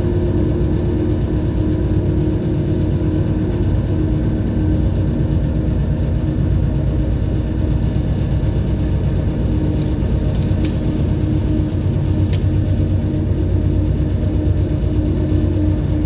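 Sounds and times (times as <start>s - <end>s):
heavy engine rumbling: 0.0s - 16.0s.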